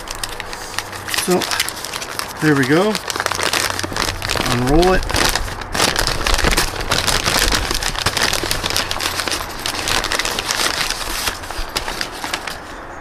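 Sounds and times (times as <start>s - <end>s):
packing paper crinkling: 0.0s - 12.8s.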